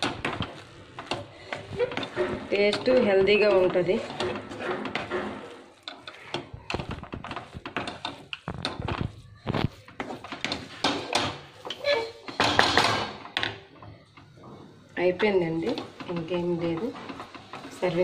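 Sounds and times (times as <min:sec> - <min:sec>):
spatula scraping a pan: 0:00.0 - 0:18.0.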